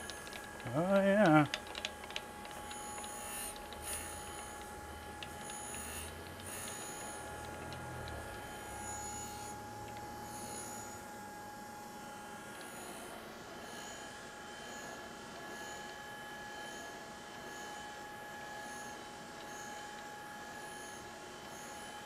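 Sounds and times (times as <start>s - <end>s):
grinder spindle whine: 0.0s - 22.0s.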